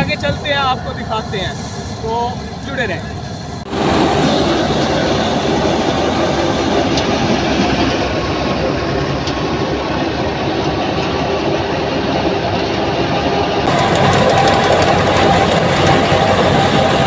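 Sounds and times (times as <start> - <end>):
thresher rumbling and rattling: 0.0 - 17.0.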